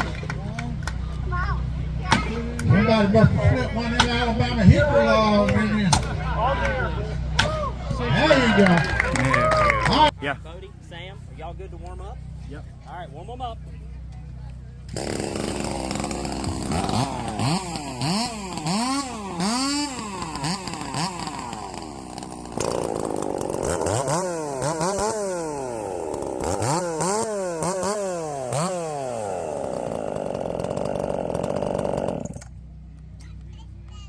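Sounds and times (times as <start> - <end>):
chainsaw engines revving: 0.0 - 10.1, 14.9 - 32.6.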